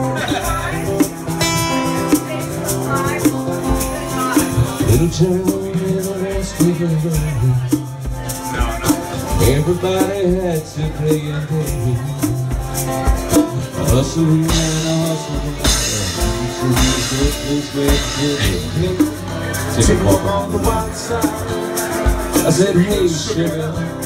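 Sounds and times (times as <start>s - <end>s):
hand percussion: 0.0s - 24.0s
strummed guitar: 0.0s - 24.0s.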